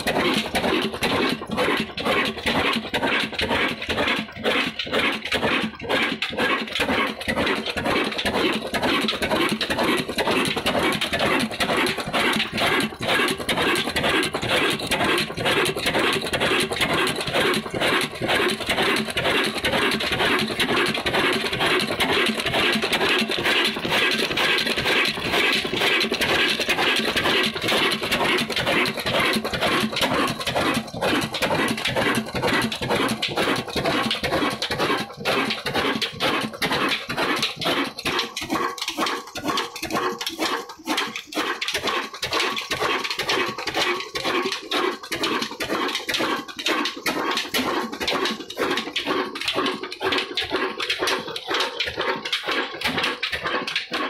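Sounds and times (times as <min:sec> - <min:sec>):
diesel engine knocking: 0:00.0 - 0:54.0.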